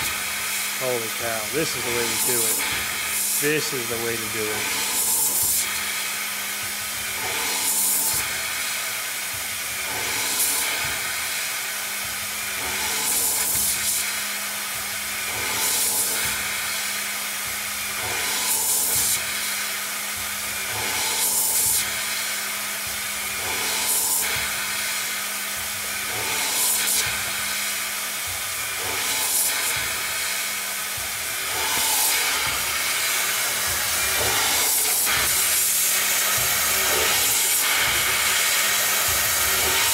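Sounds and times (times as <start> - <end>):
coolant spraying hiss: 0.0 - 39.9
lathe cutting noise: 0.0 - 39.9
lathe spindle hum: 0.0 - 39.9.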